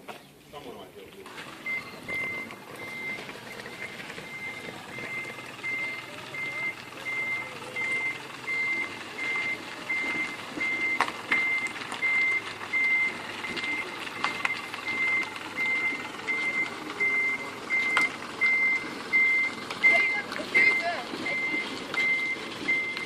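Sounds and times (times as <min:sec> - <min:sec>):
vehicle reversing alarm beeping: 0:01.2 - 0:23.0.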